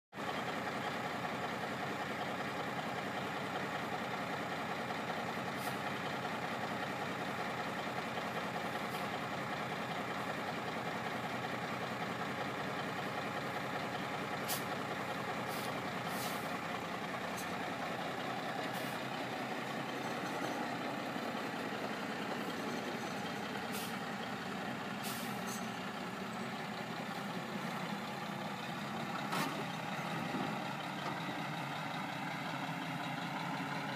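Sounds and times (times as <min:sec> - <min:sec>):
diesel truck engine running: 0:00.2 - 0:33.9.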